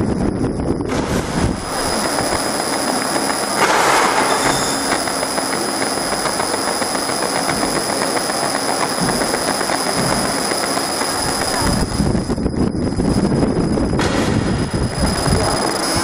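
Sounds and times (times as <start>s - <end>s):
low machine rumble: 0.0s - 16.0s
laser engraver hissing and whining: 1.2s - 16.0s
fine rapid ticking: 1.5s - 13.9s, 14.6s - 16.0s.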